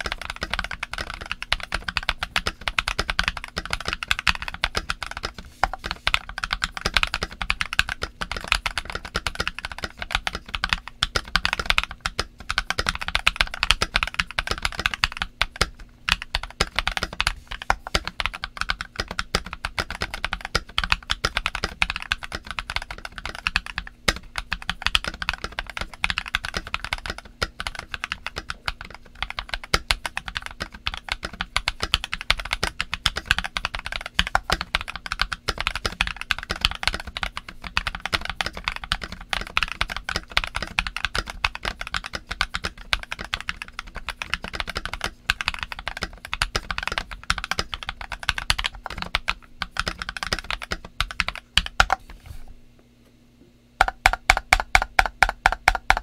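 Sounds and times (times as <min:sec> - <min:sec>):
fast typing on mechanical keyboard: 0:00.0 - 0:52.0, 0:53.8 - 0:56.0.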